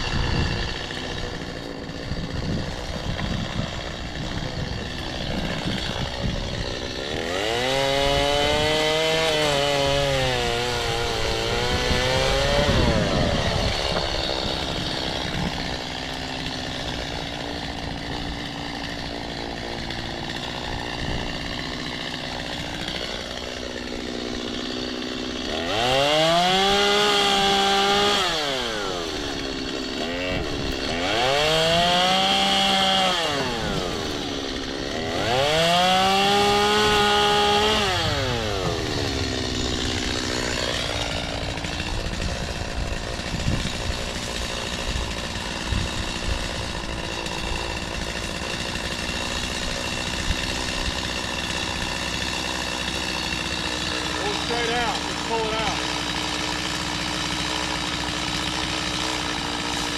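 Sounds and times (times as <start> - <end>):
chainsaw engine idling and revving: 0.0 - 59.9.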